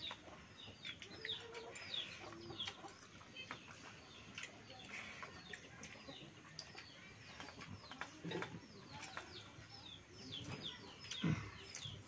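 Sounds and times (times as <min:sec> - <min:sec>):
chickens clucking: 0:00.0 - 0:12.0
faint birdsong chirps: 0:00.0 - 0:12.0.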